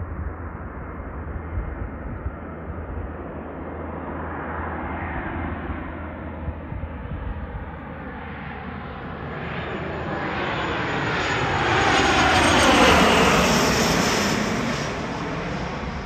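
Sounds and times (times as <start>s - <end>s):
jet engines roaring overhead: 0.0s - 16.0s.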